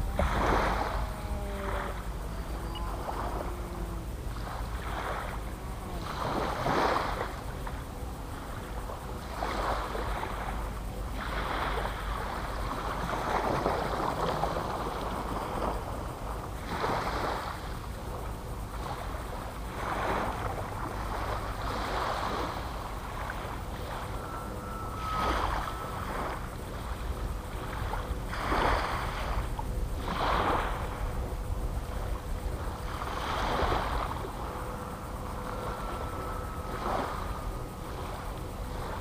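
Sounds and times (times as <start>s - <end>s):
small waves washing on shore: 0.0s - 39.0s
wind rumble on microphone: 0.0s - 39.0s.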